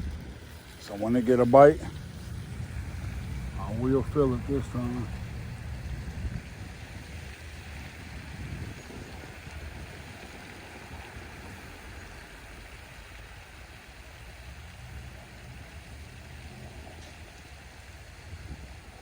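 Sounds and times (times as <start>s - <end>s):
steady outdoor hiss: 0.0s - 19.0s
wind buffeting microphone: 0.0s - 19.0s.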